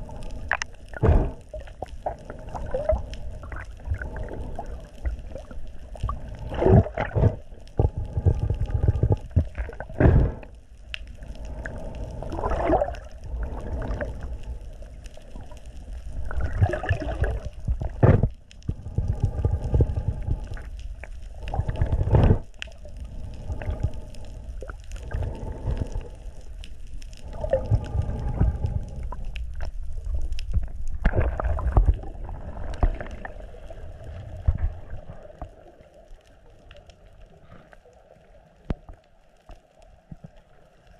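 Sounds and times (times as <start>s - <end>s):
underwater sloshing and gurgling: 0.0s - 40.9s.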